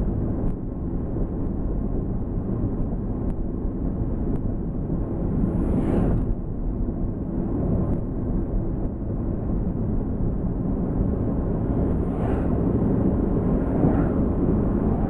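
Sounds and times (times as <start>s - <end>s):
road and wind noise in car: 0.0s - 15.0s.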